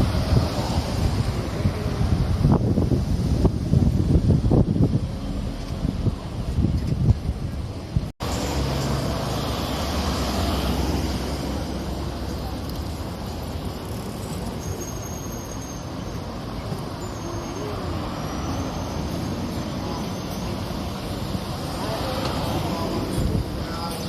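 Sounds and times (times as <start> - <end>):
heavy vehicle engine rumble: 0.0 - 24.0
passing traffic: 0.0 - 24.0.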